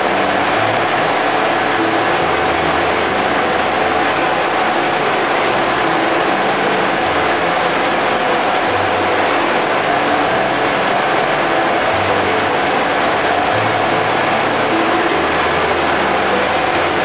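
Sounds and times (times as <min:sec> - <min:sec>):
boat engines droning: 0:00.0 - 0:17.0
steady hum: 0:00.0 - 0:17.0.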